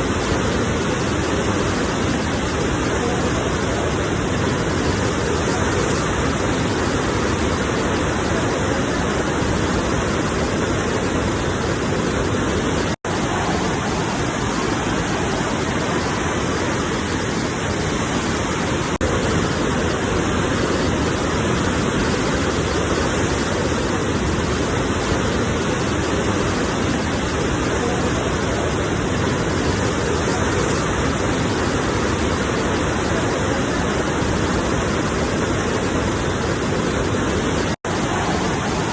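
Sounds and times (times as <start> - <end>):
sea surf rushing: 0.0 - 38.9.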